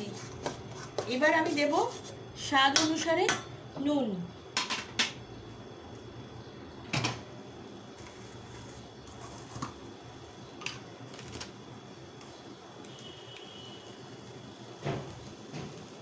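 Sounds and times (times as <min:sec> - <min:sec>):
kitchen background hum: 0:00.0 - 0:16.0.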